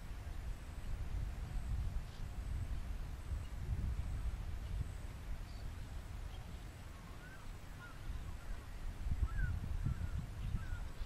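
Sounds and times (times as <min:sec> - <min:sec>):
wind rumble on microphone: 0:00.0 - 0:11.0
terns calling: 0:01.6 - 0:11.0.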